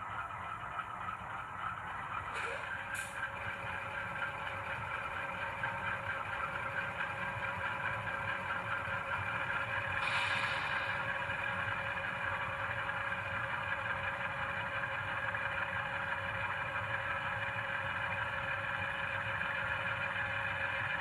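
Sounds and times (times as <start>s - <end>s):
diesel engine sound from small speaker: 0.0s - 21.0s.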